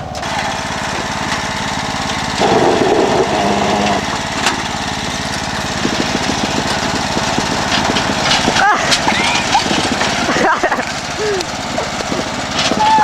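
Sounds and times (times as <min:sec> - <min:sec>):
small lawnmower engine running: 0:00.0 - 0:13.0.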